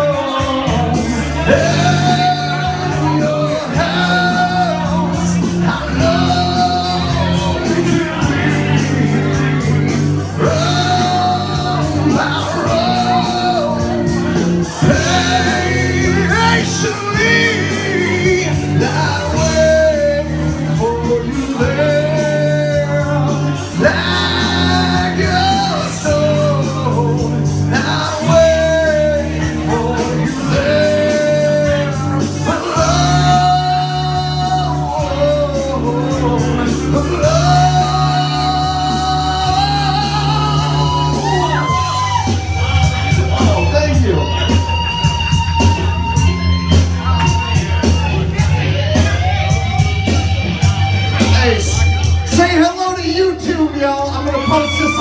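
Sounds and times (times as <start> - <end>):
backing music with bass line: 0.0 - 55.0
man singing rock into microphone: 0.0 - 55.0.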